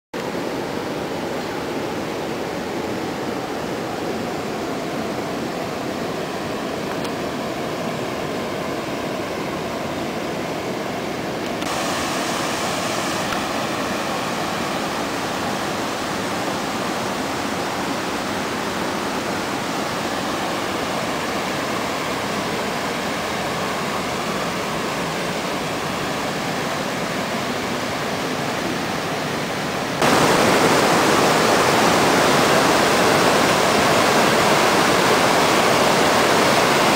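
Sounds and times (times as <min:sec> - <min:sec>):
river water rushing: 0:00.2 - 0:36.9.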